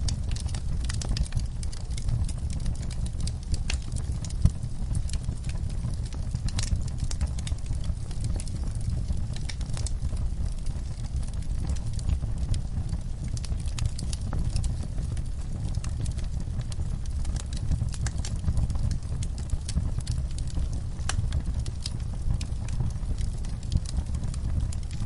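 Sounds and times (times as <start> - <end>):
logs crackling and popping: 0.0 - 25.0
low rumble of flames: 0.0 - 25.0.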